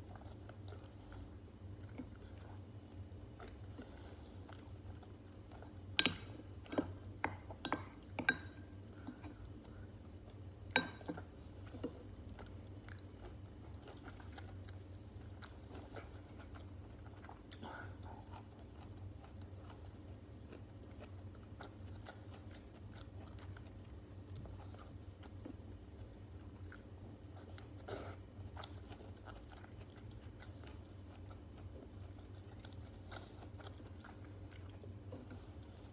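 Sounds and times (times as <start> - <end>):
close-miked chewing: 0.0 - 35.9
steady low hum: 0.0 - 35.9.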